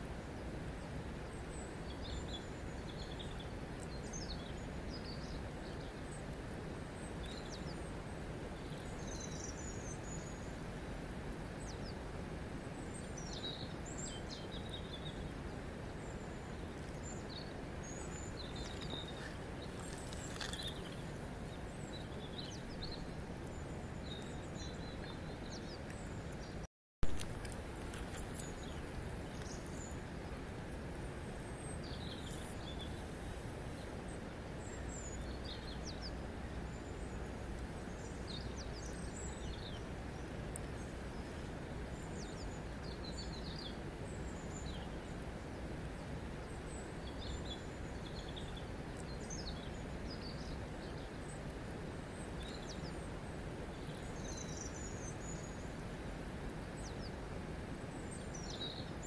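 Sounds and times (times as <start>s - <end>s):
small birds chirping: 0.8s - 10.8s, 12.6s - 26.7s, 27.4s - 59.0s.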